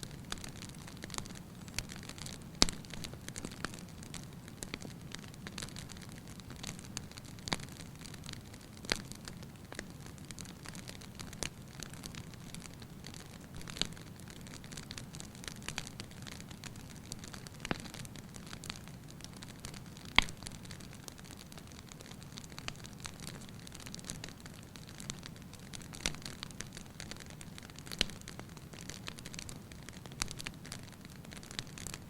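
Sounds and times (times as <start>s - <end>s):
burning logs crackling and popping: 0.0s - 32.0s.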